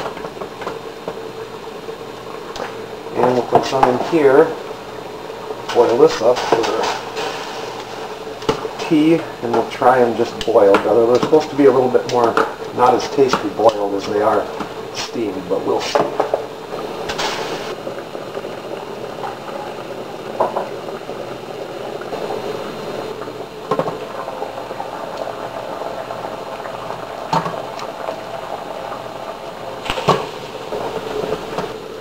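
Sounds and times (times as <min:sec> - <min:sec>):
water boiling: 0:00.0 - 0:32.0.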